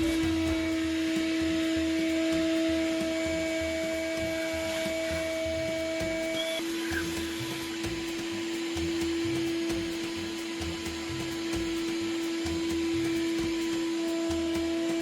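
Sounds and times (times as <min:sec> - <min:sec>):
shop vac motor whine: 0:00.0 - 0:15.0.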